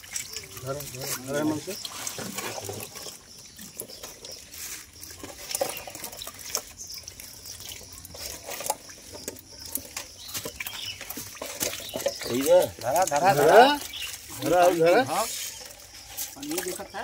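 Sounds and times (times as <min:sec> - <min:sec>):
fish thrashing in water: 0:00.0 - 0:17.0.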